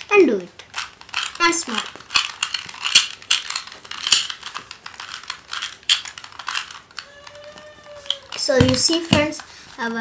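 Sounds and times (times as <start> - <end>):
puzzle cube clicking: 0.6 - 9.4.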